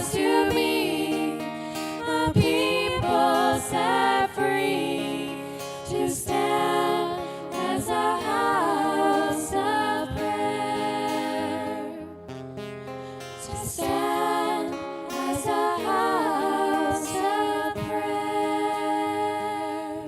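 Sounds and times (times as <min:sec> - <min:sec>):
voices singing worship song: 0:00.0 - 0:20.0.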